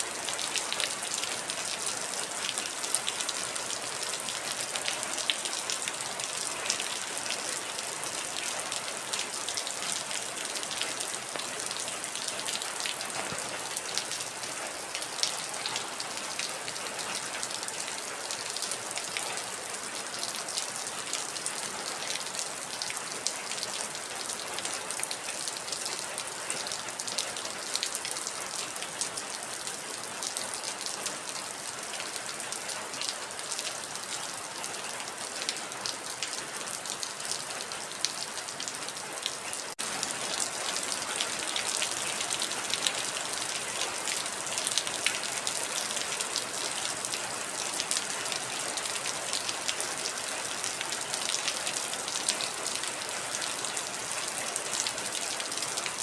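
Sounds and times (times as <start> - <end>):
heavy rain with ticking drops: 0.0 - 56.0.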